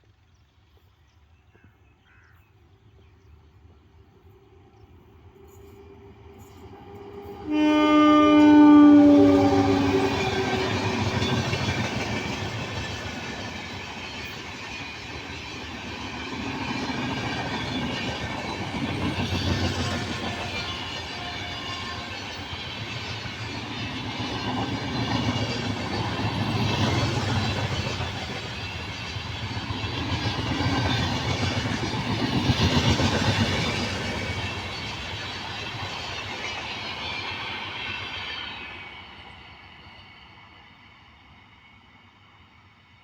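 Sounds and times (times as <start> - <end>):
train wheels rumbling on rails: 2.9 - 41.1.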